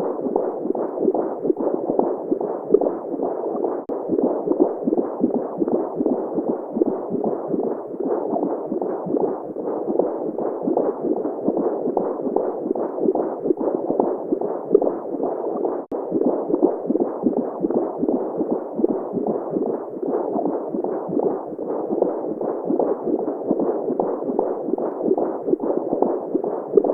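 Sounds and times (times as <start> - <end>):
muffled heartbeat: 0.0 - 26.9.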